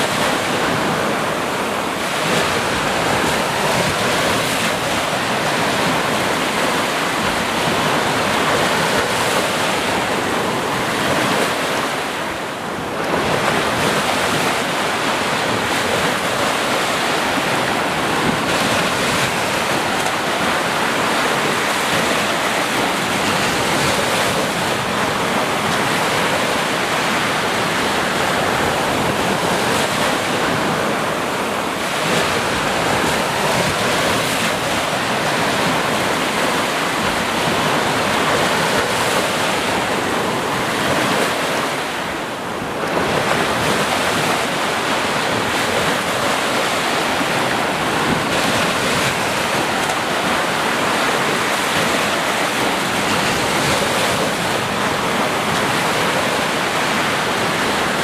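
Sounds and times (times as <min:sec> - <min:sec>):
ocean surf breaking waves: 0:00.0 - 0:58.0.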